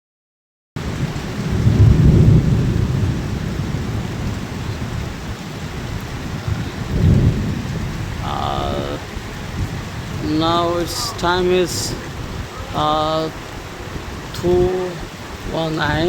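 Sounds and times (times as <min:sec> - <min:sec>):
heavy rain falling: 0:00.8 - 0:16.0
low thunder rumbles: 0:00.8 - 0:16.0.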